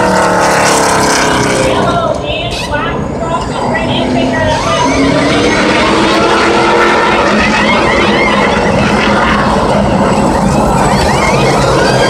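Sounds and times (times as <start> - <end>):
high rising engine whines: 0.0 - 12.0
truck engines droning: 0.0 - 12.0.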